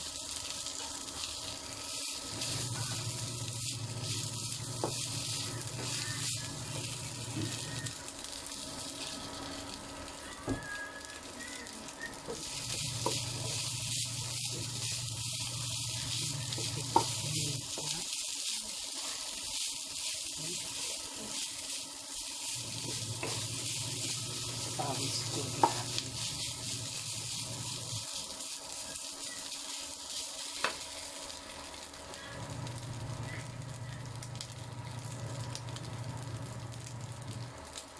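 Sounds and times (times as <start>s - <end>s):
rice sizzling in a pan: 0.0s - 37.9s.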